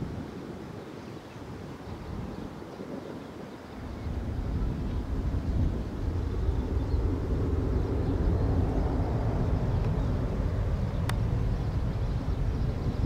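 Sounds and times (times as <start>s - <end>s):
jet airliner engines rumbling: 0.0s - 13.0s.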